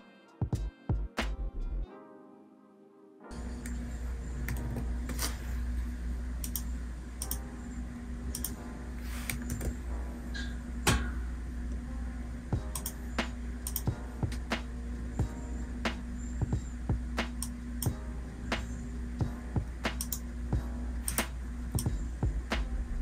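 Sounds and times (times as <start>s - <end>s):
steady low hum: 3.3s - 23.0s.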